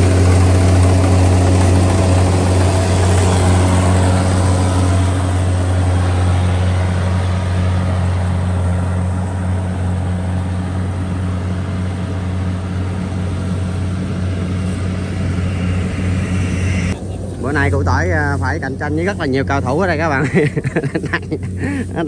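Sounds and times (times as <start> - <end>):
combine harvester engine droning: 0.0 - 22.0.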